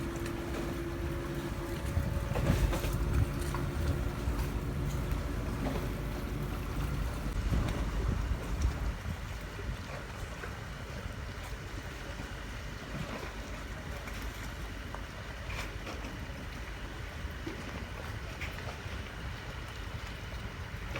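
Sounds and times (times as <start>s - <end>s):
speedboat engine: 0.0s - 20.9s
water noise: 0.0s - 20.9s.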